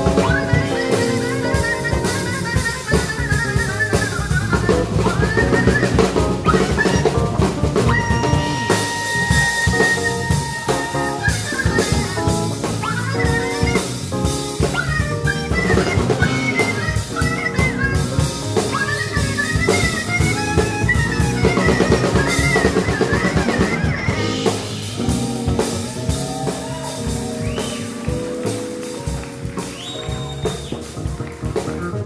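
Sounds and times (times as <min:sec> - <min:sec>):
trumpet playing melody: 0:00.0 - 0:31.2
drum kit: 0:00.0 - 0:32.0
electric bass: 0:00.0 - 0:32.0.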